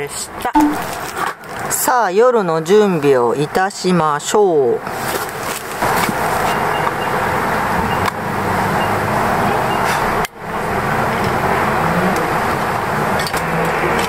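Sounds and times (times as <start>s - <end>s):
loud rushing outdoor noise: 0.2s - 14.0s.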